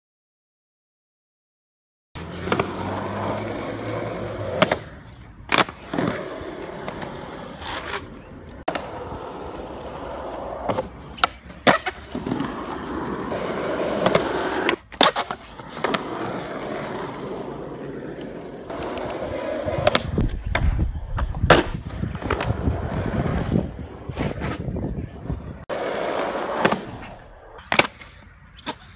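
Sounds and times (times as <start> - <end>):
skateboard tail popping and landing: 2.2 - 17.6, 18.2 - 24.8, 25.7 - 28.8
skateboard wheels rolling on asphalt: 2.2 - 28.9.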